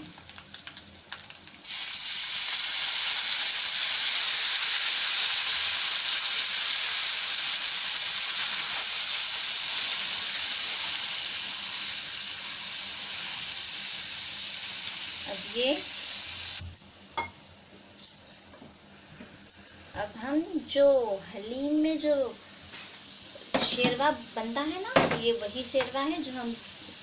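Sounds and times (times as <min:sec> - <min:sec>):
water hissing in hot oil: 0:00.0 - 0:16.7, 0:20.0 - 0:27.0.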